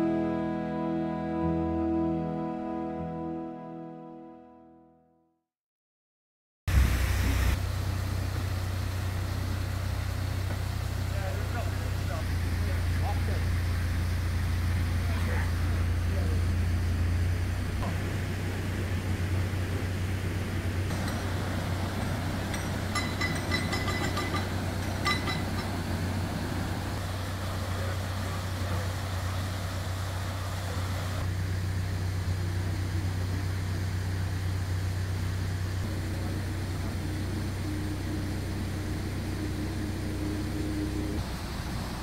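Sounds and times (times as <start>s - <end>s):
diesel engine running low: 6.7s - 42.0s.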